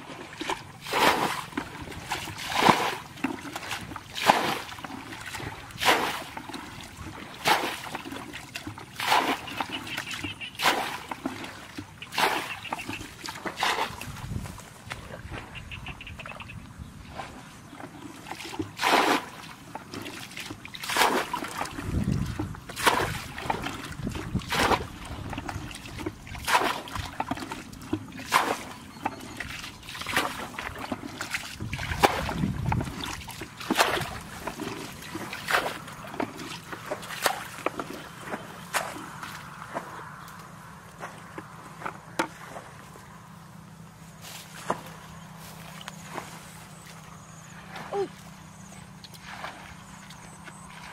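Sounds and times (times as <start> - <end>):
bucket splashing muddy water: 0.0 - 16.4, 17.0 - 43.2, 44.2 - 50.9.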